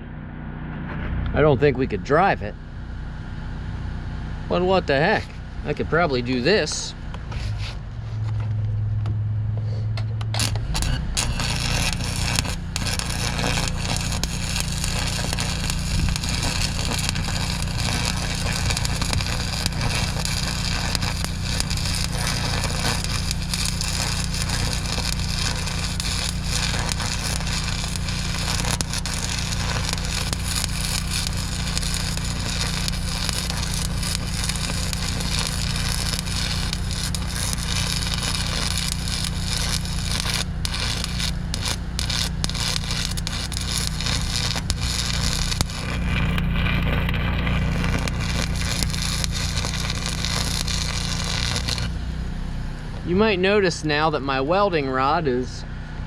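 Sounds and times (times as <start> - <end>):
steady hum: 0.0 - 56.0
welding arc crackling: 4.5 - 7.7, 10.2 - 52.2.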